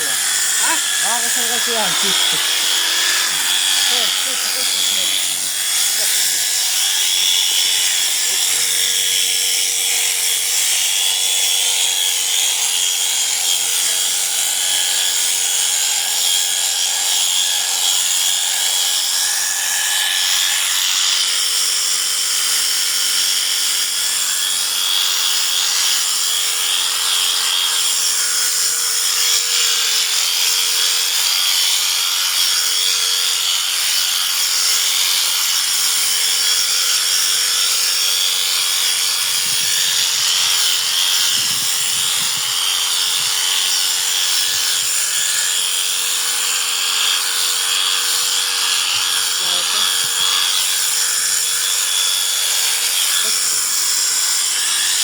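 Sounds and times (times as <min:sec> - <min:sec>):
electric sheep shears buzzing: 0:00.0 - 0:55.0.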